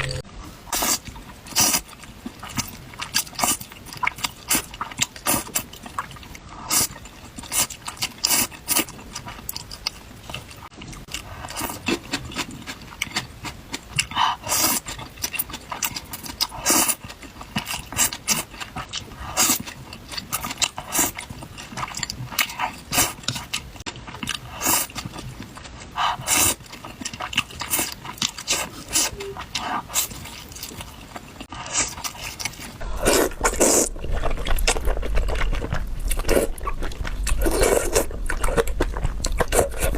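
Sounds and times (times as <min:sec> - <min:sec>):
noodles slurped and chewed: 0:00.1 - 0:39.9.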